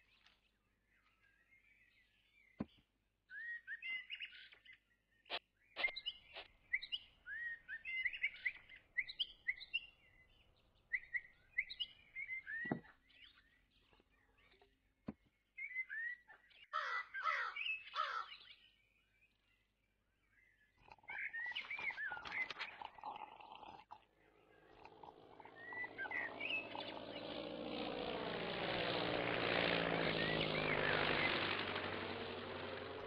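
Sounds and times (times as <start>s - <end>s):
small birds chirping: 0.0s - 27.5s, 29.4s - 33.0s.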